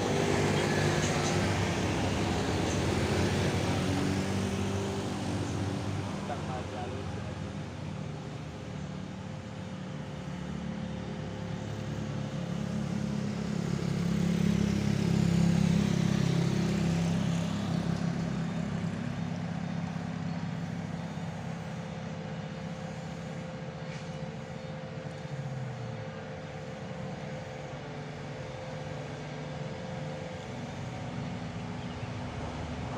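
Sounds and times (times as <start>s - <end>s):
truck diesel engine labouring: 0.0s - 32.9s.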